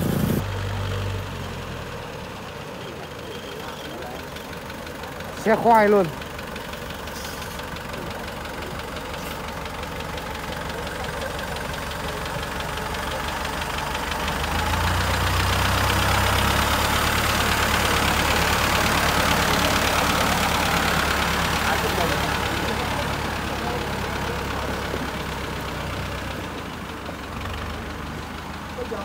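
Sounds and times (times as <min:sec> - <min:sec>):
tractor diesel engine knocking: 0:00.0 - 0:29.0.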